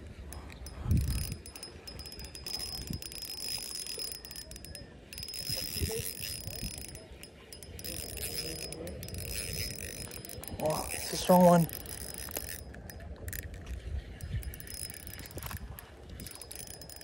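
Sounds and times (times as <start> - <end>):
fishing reel ticking whir: 0.0 - 17.0.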